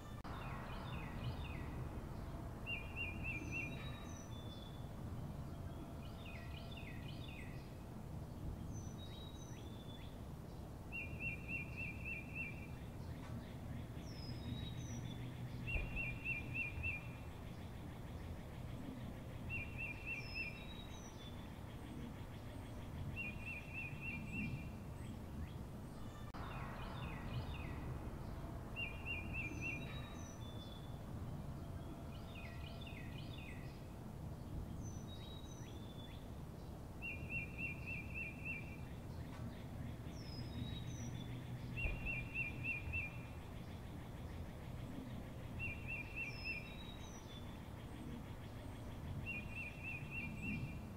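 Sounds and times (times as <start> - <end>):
low background noise: 0.0 - 50.9.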